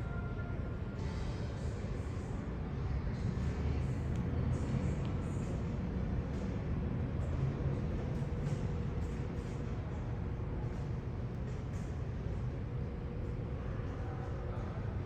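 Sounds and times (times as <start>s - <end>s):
faint steady hum: 0.0s - 15.0s
vehicle low rumble: 0.0s - 15.0s.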